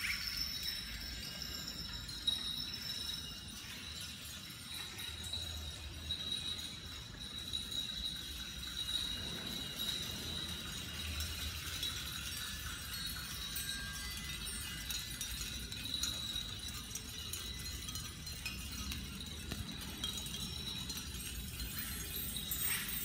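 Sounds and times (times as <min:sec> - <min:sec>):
shell wind chime clinking: 0:00.0 - 0:23.0.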